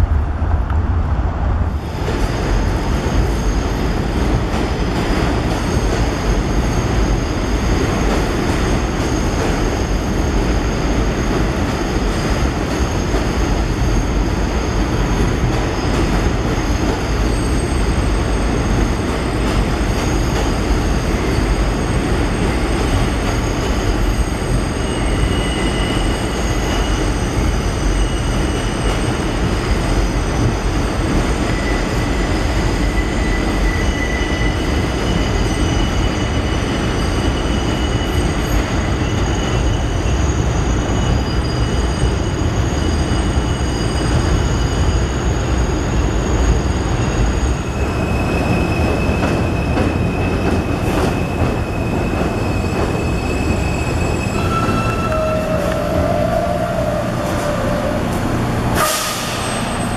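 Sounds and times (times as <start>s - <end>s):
train rumbling on track: 0.0s - 59.9s
steel wheels squealing on rails: 1.8s - 59.9s.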